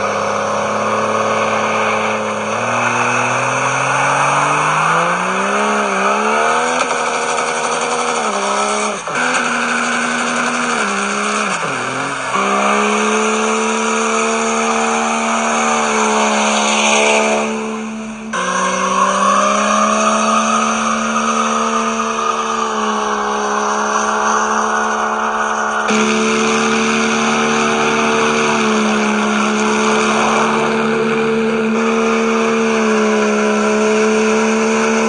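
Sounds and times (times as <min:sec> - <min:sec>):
engine at high revs: 0:00.0 - 0:35.0
tires squealing: 0:00.0 - 0:35.0.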